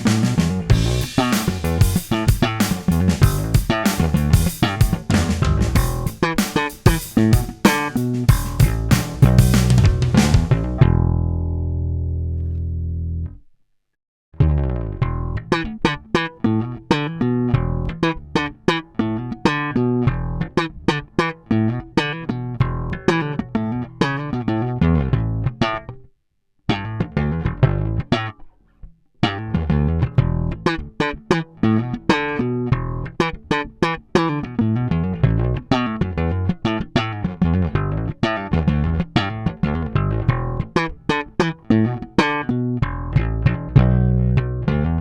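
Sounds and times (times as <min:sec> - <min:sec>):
bass guitar plucked notes: 0:00.0 - 0:13.4, 0:14.4 - 0:26.0, 0:26.7 - 0:28.5, 0:29.2 - 0:45.0.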